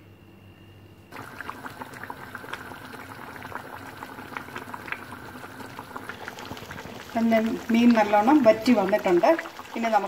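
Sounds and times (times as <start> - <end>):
curry bubbling in a pot: 1.1 - 10.0.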